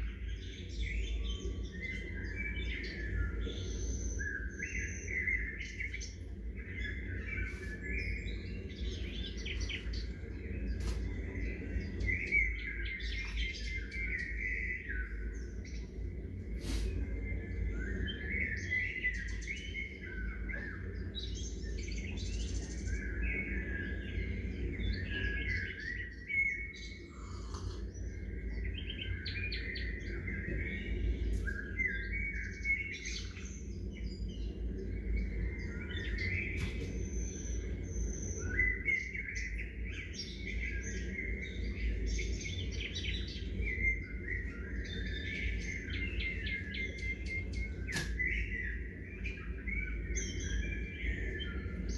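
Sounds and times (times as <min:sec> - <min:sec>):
birds chirping: 0:00.0 - 0:51.9
low background rumble: 0:00.0 - 0:51.9.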